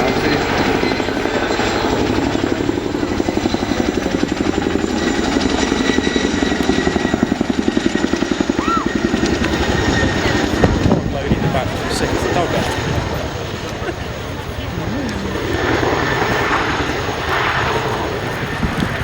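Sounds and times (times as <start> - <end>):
helicopter rotor chop: 0.0 - 19.0
turbine whine: 0.0 - 19.0.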